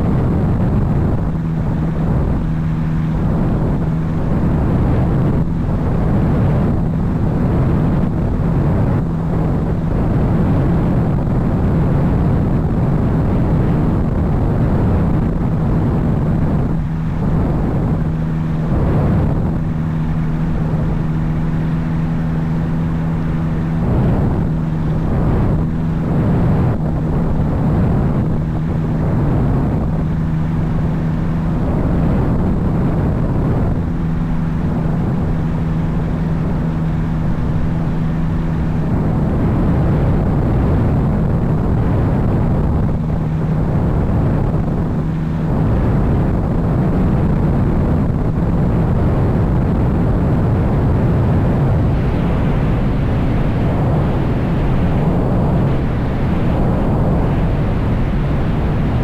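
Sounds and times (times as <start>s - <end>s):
gusty low rumble: 0.0s - 59.0s.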